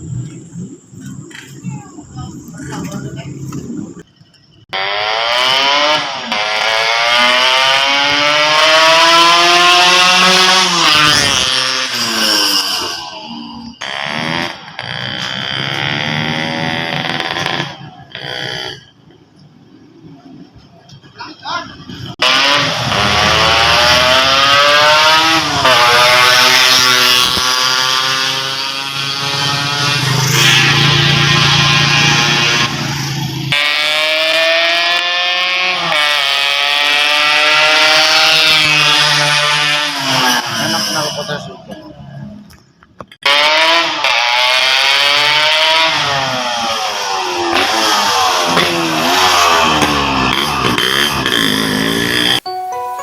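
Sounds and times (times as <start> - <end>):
motorcycle engine accelerating: 2.2 - 19.2, 21.9 - 41.4, 43.2 - 52.5.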